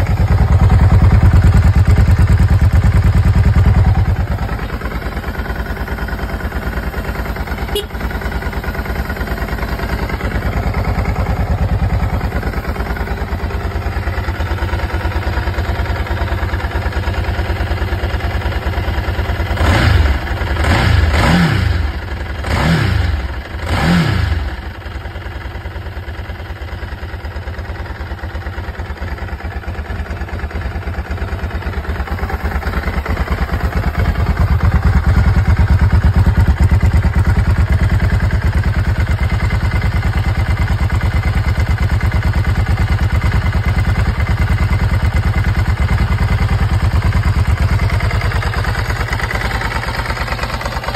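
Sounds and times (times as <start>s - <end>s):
motorcycle engine idling and revving: 0.0s - 50.9s.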